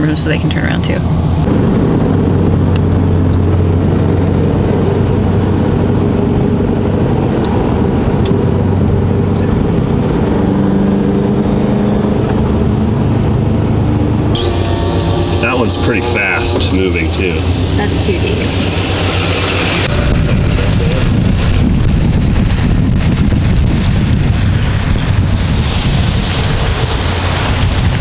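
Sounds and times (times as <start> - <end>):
car engine running steadily: 0.0 - 28.0.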